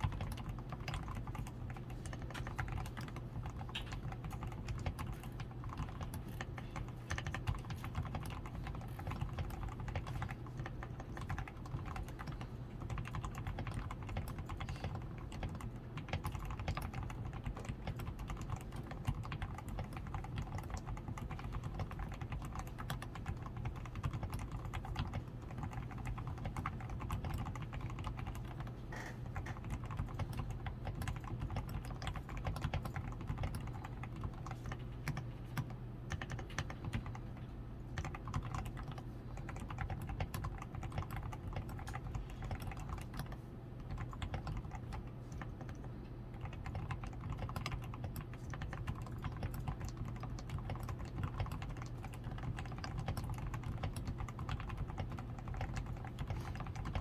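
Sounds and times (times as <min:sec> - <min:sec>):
typing on mechanical keyboard: 0:00.0 - 0:57.0.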